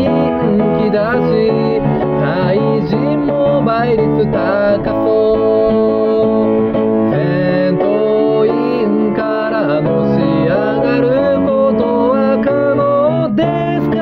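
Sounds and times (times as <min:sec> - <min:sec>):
acoustic guitar: 0:00.0 - 0:14.0
person singing: 0:00.0 - 0:14.0.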